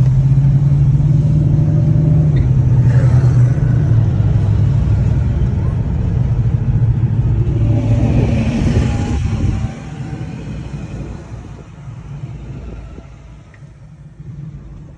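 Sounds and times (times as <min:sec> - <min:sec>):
low traffic rumble: 0:00.0 - 0:14.9
car exhaust rumbling past: 0:00.1 - 0:14.0.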